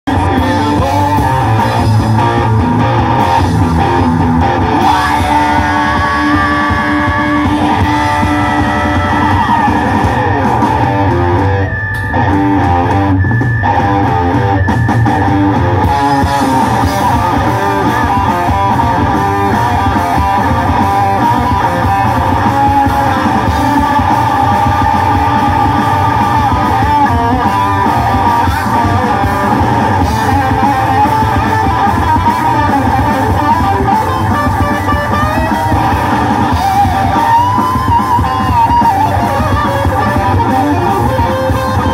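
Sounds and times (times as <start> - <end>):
live rock band playing: 0.0 - 41.9.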